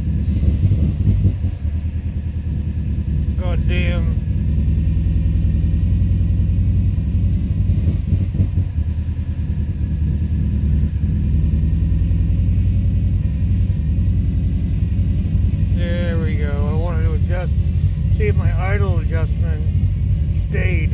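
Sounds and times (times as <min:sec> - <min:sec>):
car engine idling roughly: 0:00.0 - 0:20.9.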